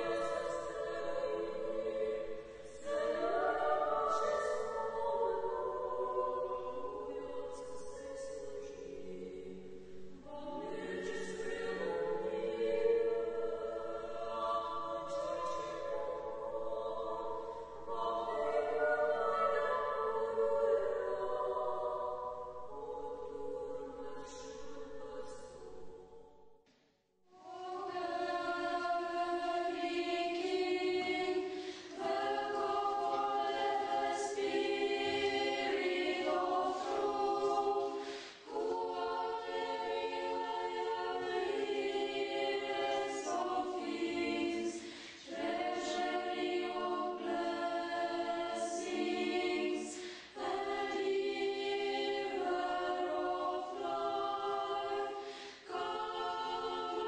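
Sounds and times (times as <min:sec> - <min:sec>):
girls choir singing a cappella: 0:00.0 - 0:26.5, 0:27.3 - 0:57.0.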